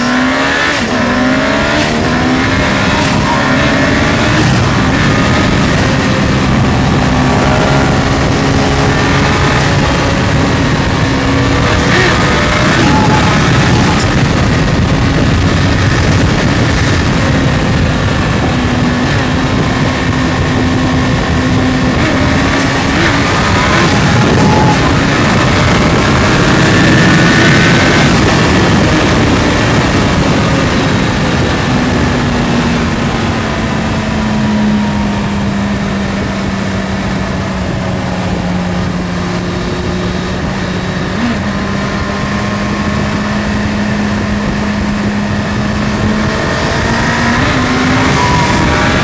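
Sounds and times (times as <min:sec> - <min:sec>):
heavy wind rush: 0:00.0 - 0:49.0
motorcycle engine cruising: 0:00.0 - 0:49.0.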